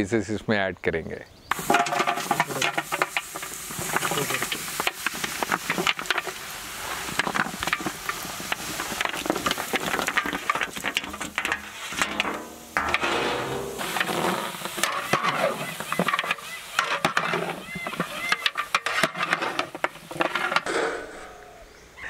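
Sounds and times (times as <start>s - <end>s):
metal tray scraping: 1.5s - 6.3s, 7.0s - 21.7s
meat clattering into metal pot: 1.5s - 6.5s, 7.1s - 20.7s.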